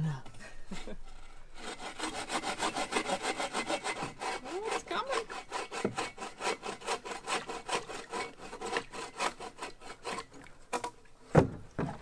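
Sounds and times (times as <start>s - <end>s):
hand saw cutting log: 0.7s - 11.6s.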